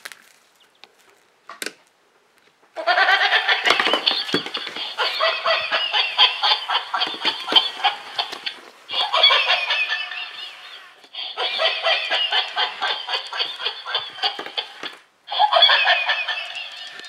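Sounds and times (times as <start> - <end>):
toy dog recorded laugh: 2.8 - 17.0.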